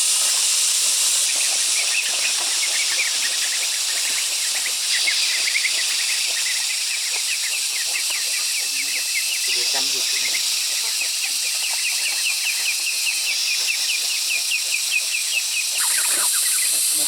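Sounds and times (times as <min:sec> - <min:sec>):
steady high hiss: 0:00.0 - 0:17.0
chicks peeping: 0:00.1 - 0:17.0.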